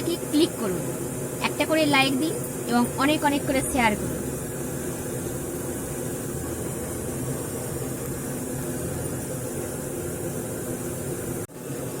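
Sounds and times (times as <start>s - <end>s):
motor humming with hiss: 0.0s - 12.0s.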